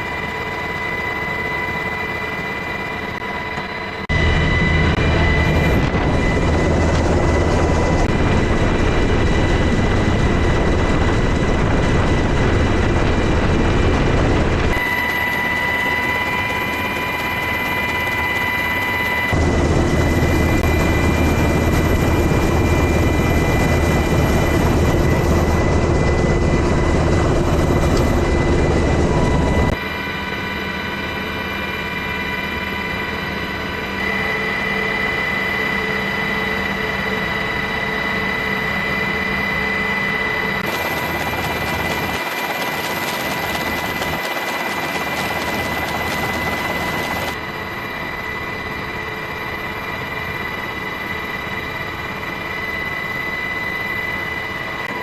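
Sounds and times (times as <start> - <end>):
aircraft engine whine: 0.0 - 55.0.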